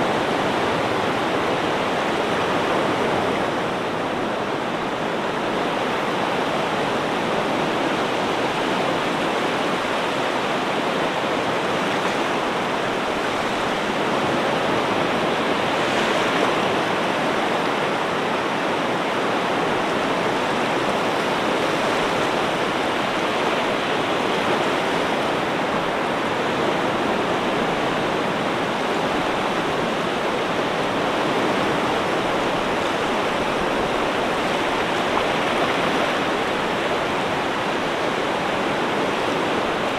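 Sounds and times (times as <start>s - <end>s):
ocean waves washing: 0.0s - 39.9s.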